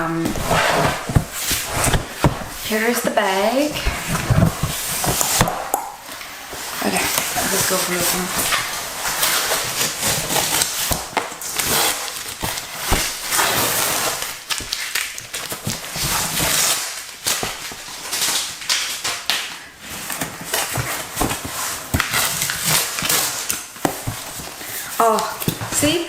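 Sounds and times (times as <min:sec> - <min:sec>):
paper packaging rustling and tearing: 0:00.0 - 0:26.0.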